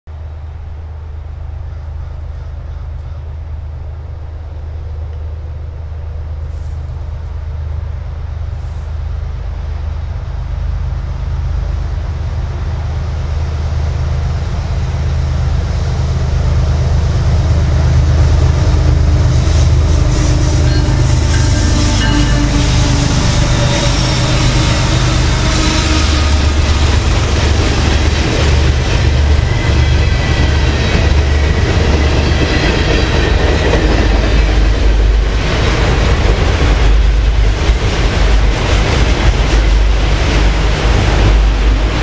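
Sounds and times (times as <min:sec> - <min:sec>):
diesel locomotive engine rumble: 0:00.1 - 0:42.0
wheel and rail noise: 0:00.1 - 0:42.0.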